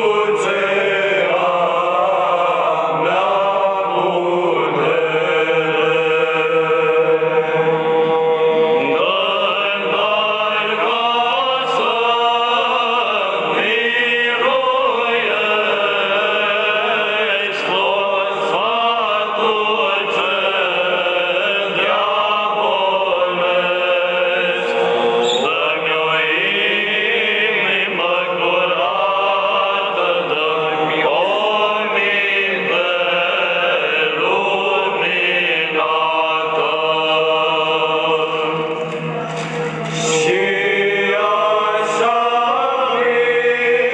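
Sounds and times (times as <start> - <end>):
voices chanting a hymn: 0.0 - 43.9.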